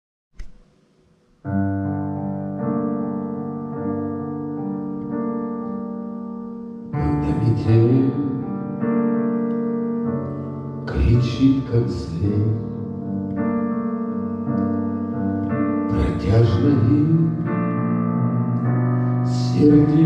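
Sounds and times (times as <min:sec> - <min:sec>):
music arrangement: 0:00.4 - 0:20.0
piano keyboard chords: 0:01.4 - 0:20.0.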